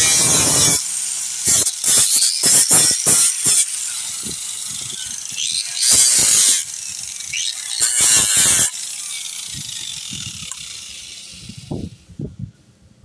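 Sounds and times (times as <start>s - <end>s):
grinder grinding fiberglass: 0.0s - 12.0s
angle grinder disc whine: 0.0s - 12.1s.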